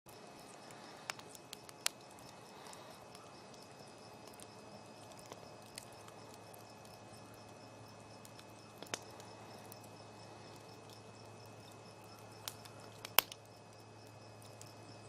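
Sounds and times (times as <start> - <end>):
burning wood hissing: 0.1 - 15.0
fire popping: 0.1 - 15.0.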